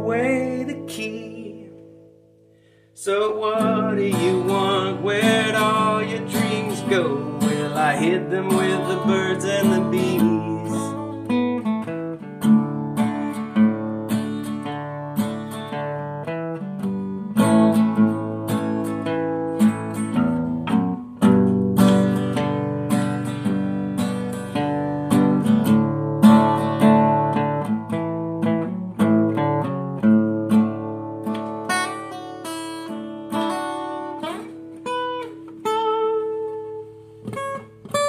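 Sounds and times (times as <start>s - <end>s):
acoustic guitar playing: 0.0s - 38.0s.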